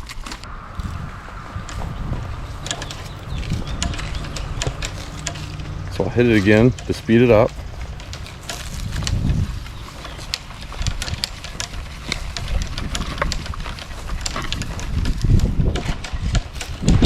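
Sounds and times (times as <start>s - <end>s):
sharp clicks and rattles: 0.0s - 17.0s
wind rumble on microphone: 0.0s - 17.0s.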